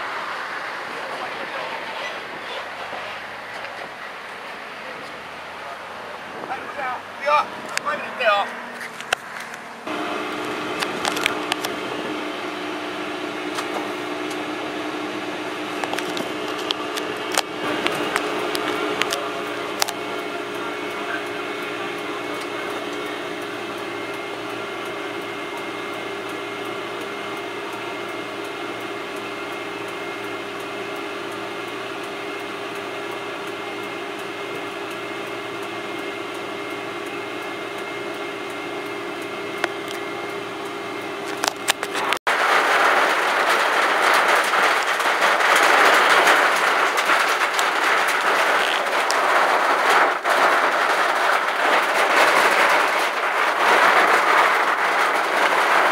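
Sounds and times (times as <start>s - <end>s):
vehicle cabin drone: 0.0s - 55.9s.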